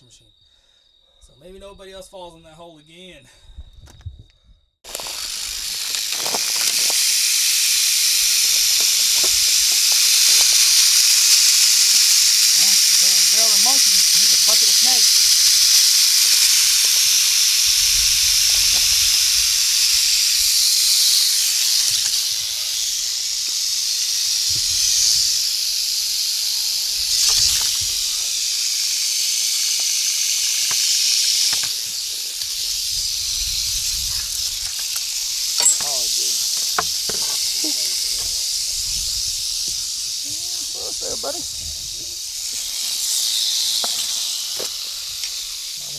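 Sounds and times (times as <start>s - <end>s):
rattlesnakes rattling: 3.4s - 45.9s.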